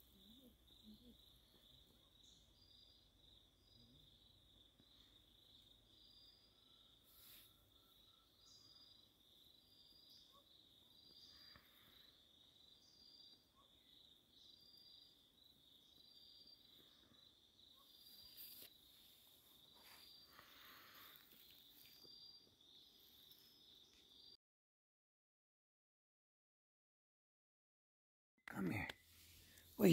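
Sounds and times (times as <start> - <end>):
insect high-pitched trill: 0.0 - 24.3
insect short chirp: 0.0 - 24.4.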